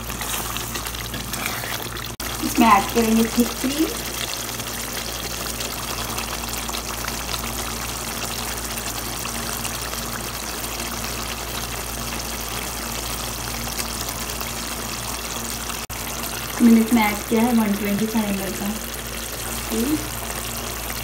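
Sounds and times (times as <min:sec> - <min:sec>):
sauce bubbling in a pan: 0:00.0 - 0:21.0.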